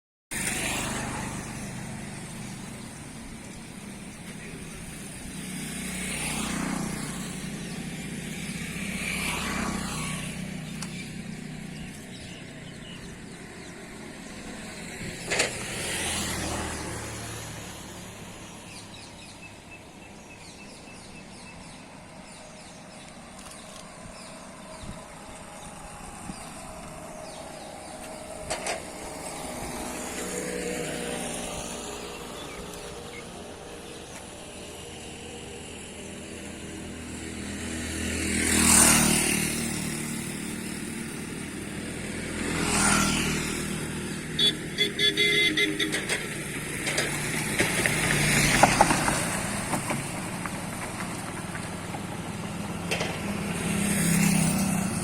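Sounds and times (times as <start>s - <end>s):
vehicles passing close by: 0.3s - 55.0s.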